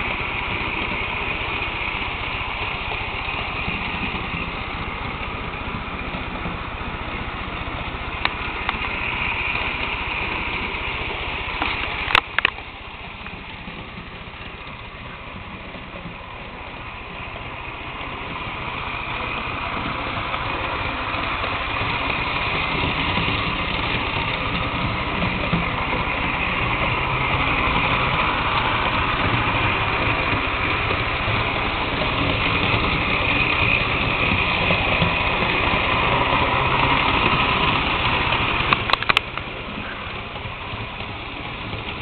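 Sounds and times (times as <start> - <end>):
model train running on track: 0.0 - 42.0.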